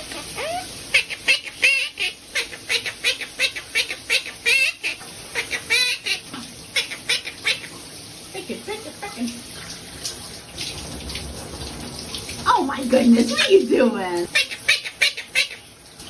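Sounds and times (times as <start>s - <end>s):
running tap water: 0.0s - 16.0s.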